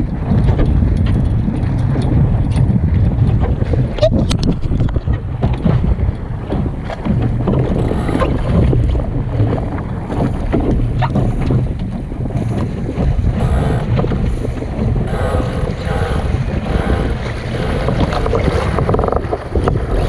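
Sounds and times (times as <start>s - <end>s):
water slapping hull: 0.0s - 20.0s
wind buffeting microphone: 0.0s - 20.0s.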